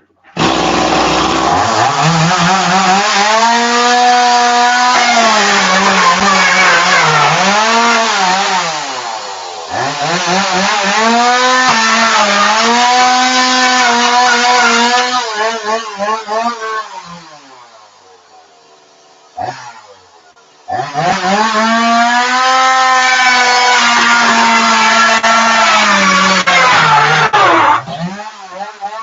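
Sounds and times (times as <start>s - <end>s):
chainsaw revving and cutting metal: 0.2s - 29.0s.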